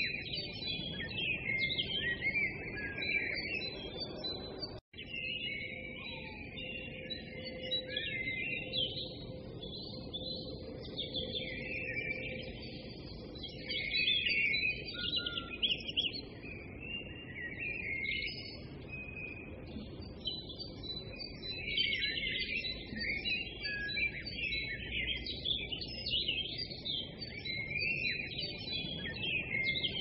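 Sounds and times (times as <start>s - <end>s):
small birds chirping and twittering: 0.0s - 30.0s.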